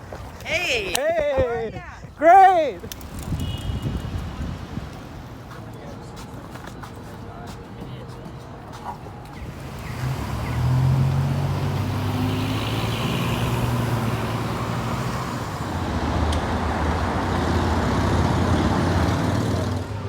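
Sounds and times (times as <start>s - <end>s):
traffic engine drone: 2.8s - 20.0s.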